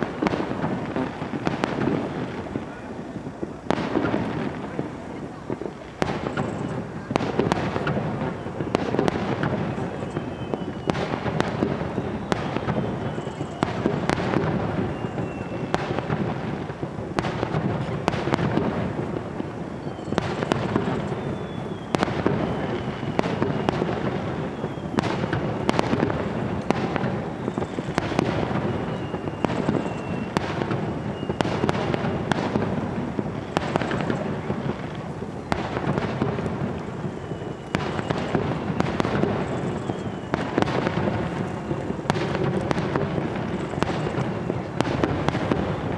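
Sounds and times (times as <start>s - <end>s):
falling firework whistles: 0.0s - 45.9s
fireworks booms and crackles: 0.0s - 45.9s.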